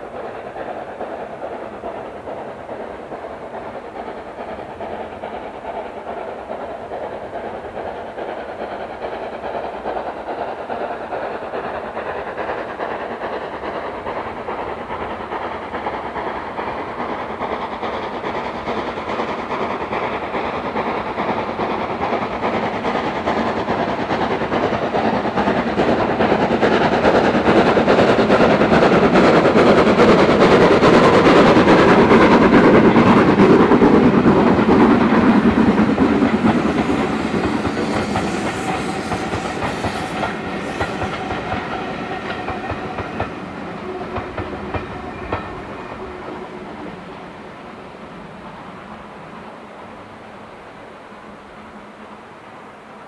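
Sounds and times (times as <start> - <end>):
steam locomotive exhaust beats: 0.0 - 53.0
train running: 0.0 - 53.0.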